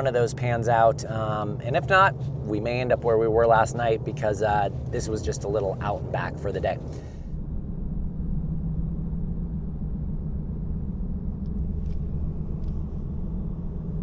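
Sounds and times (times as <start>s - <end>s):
road rumble: 0.0s - 14.0s
vehicle engine hum: 0.0s - 14.0s.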